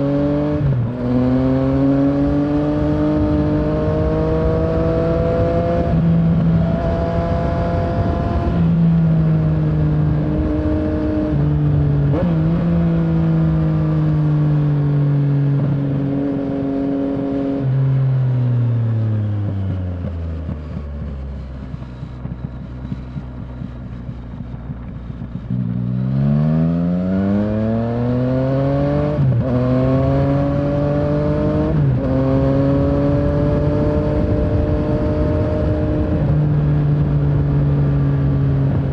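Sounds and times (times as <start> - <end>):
motorcycle engine changing gears: 0.0 - 38.9.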